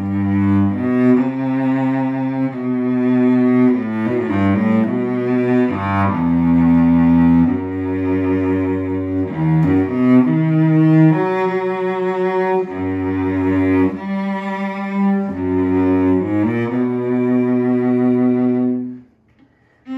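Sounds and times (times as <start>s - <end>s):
bowed cello: 0.0s - 19.9s.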